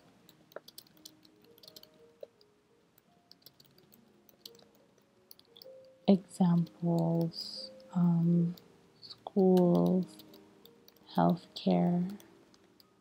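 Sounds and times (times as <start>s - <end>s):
faint keyboard typing: 0.0s - 13.0s.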